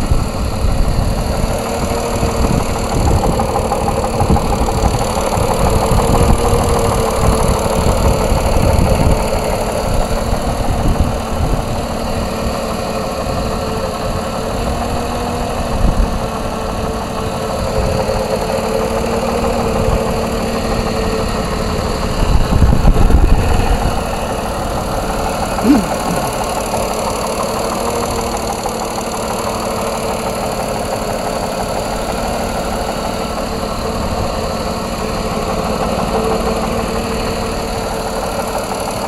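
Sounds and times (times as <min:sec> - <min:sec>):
engine idling with a knock: 0:00.0 - 0:39.0.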